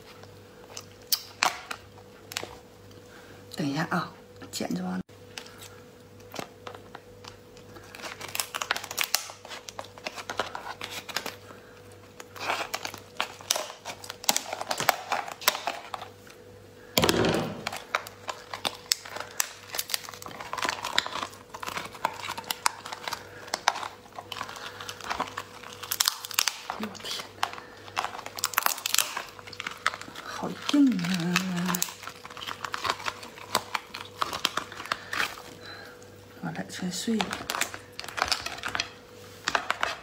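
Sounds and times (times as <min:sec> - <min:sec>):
lobster shell cracking: 0:00.2 - 0:03.0, 0:05.3 - 0:36.1, 0:37.0 - 0:40.0.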